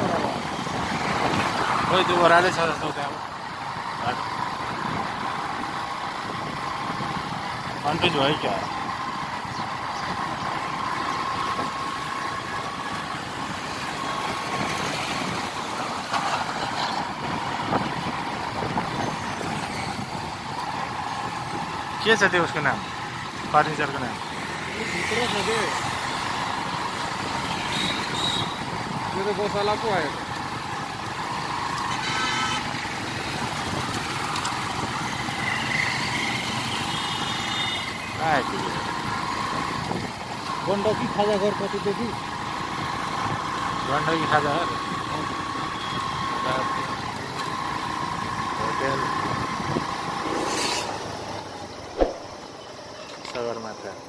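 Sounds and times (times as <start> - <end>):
passing traffic: 0.0 - 54.0
road and wind noise: 0.0 - 54.0.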